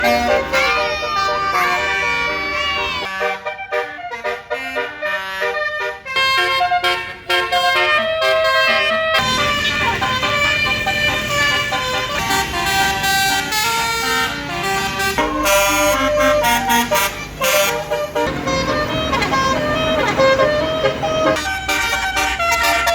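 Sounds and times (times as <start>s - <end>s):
engine noise: 0.0s - 22.9s
musical air horn melody: 0.0s - 22.9s.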